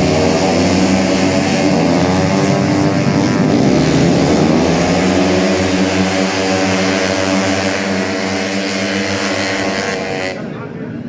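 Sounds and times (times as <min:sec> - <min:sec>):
scooter engines revving: 0:00.0 - 0:11.0.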